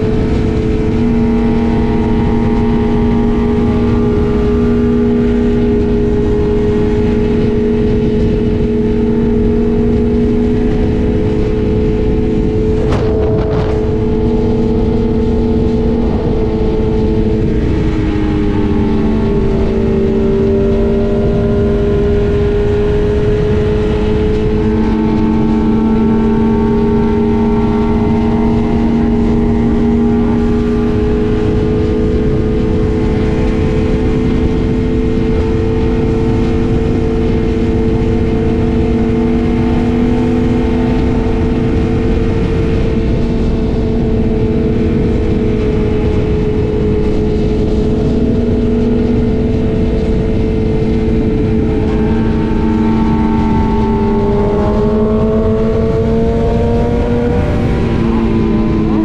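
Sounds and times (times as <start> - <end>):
motorcycle engine cruising: 0.0 - 59.0
wind rush: 0.0 - 59.0.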